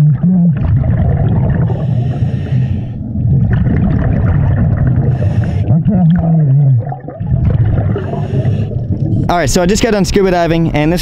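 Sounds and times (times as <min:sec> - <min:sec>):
underwater exhaled air bubbling: 0:00.0 - 0:09.6.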